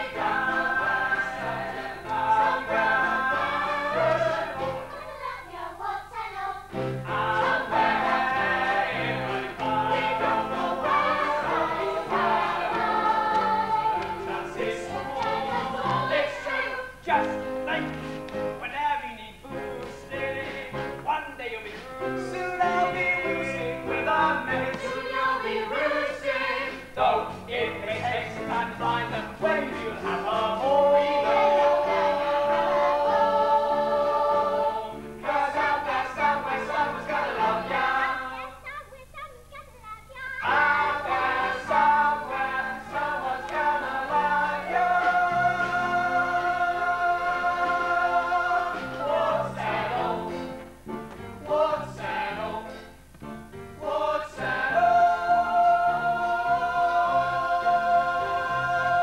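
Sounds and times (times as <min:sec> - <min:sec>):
ensemble singing: 0:00.0 - 0:38.7, 0:40.4 - 0:59.0.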